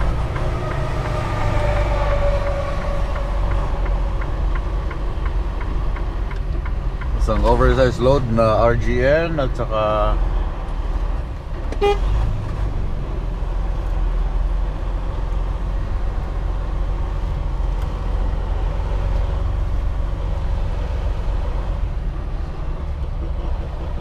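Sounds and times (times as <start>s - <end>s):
diesel truck engine running: 0.0s - 24.0s
road and cab noise: 0.0s - 24.0s.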